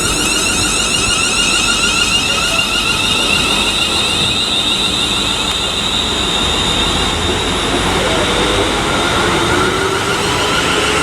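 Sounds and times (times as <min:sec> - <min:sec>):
train traction motors whining: 0:00.0 - 0:11.0.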